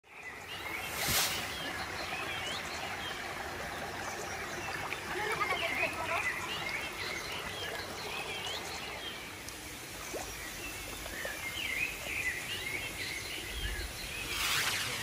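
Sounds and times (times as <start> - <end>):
small birds chirping: 0.1 - 15.0
steady outdoor hiss: 0.1 - 15.0.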